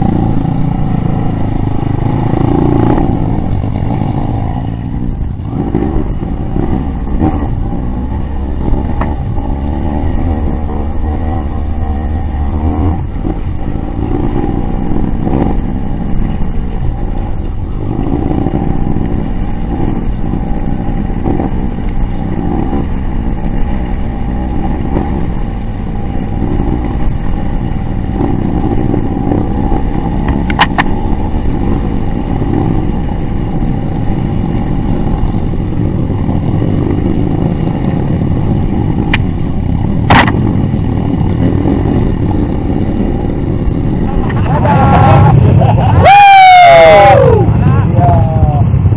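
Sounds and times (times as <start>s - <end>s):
dirt bike engine revving: 0.0s - 48.0s
heavy low rumble: 0.0s - 48.9s.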